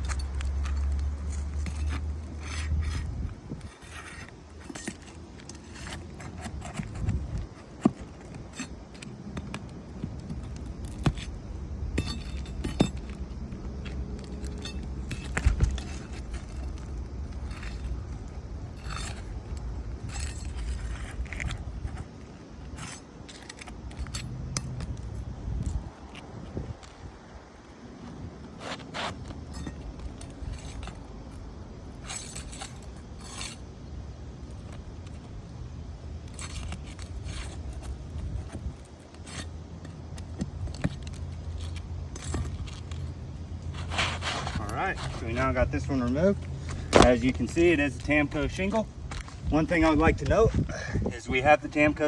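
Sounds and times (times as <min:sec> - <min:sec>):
metal tool scraping shingles: 0:00.0 - 0:25.0, 0:28.5 - 0:33.7, 0:36.2 - 0:52.0.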